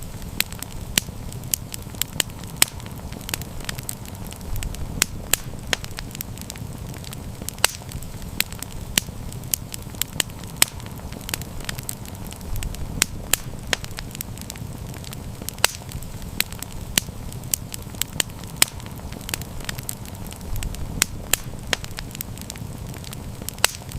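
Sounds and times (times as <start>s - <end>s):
campfire crackling and popping: 0.0s - 23.9s
low rumble of flame: 0.0s - 23.9s.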